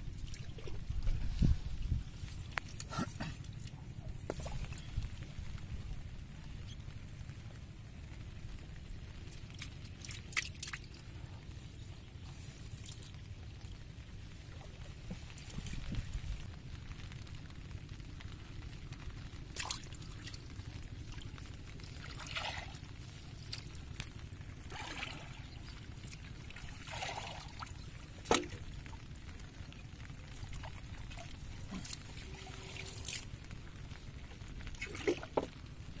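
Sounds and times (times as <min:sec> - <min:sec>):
water splashing and trickling: 0:00.0 - 0:07.8, 0:08.5 - 0:36.0
steady low rumble: 0:00.0 - 0:36.0.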